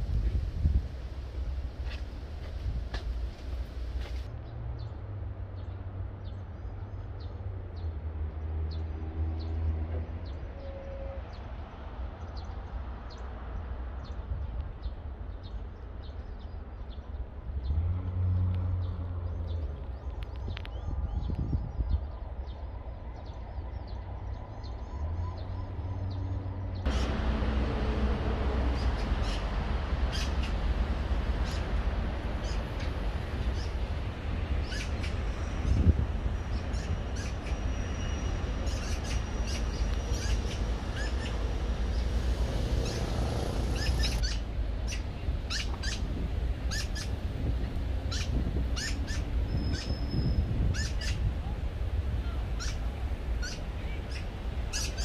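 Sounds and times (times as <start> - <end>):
low rumble of outdoor ambience: 0.0 - 55.0.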